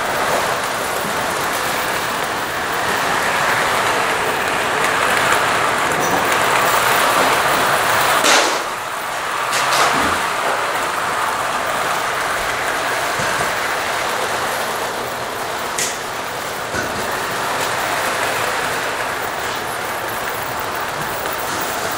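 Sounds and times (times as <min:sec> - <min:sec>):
toy train motor whirring: 0:00.0 - 0:21.9.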